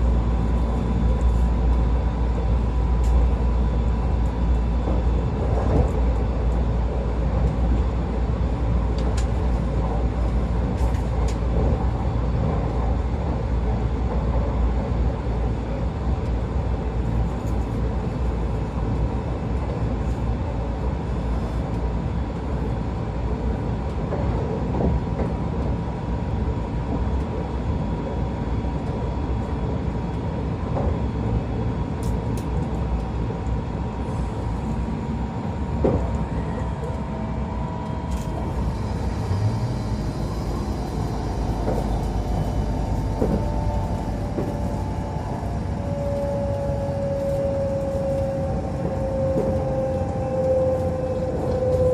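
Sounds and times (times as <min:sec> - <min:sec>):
continuous motor hum: 0:00.0 - 0:51.9
wheels rumbling on rail: 0:00.0 - 0:51.9.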